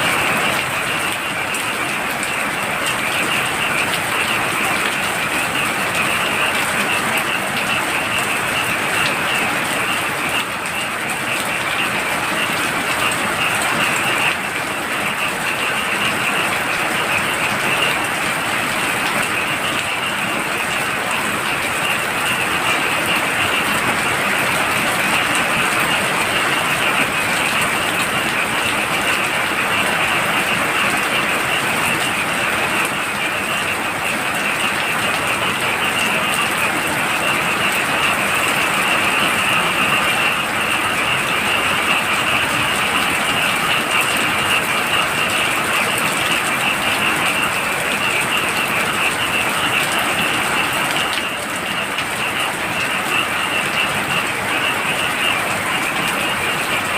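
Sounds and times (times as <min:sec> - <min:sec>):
frogs trilling: 0:00.0 - 0:56.9
heavy rain falling: 0:00.0 - 0:56.9.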